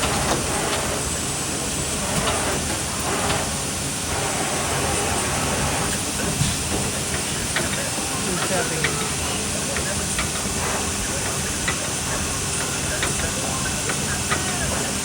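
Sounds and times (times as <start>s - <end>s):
machine hiss: 0.0s - 15.0s.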